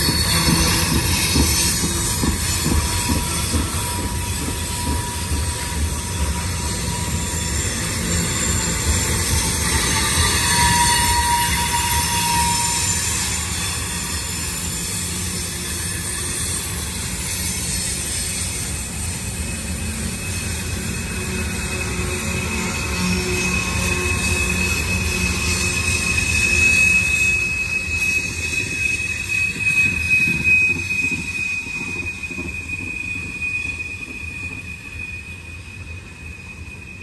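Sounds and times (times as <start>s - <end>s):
train wheels rumbling on rails: 0.0s - 37.0s
wheel flange squeal: 0.0s - 37.0s.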